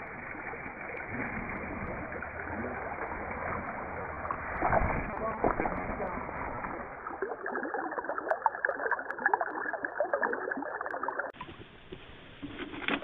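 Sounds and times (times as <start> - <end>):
faint water splashes: 0.0 - 13.0.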